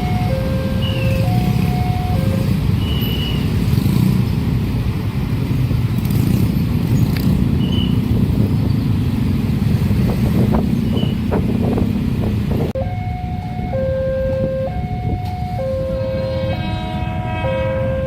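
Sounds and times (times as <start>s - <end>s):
heavy vehicle or train rumble: 0.0s - 18.0s.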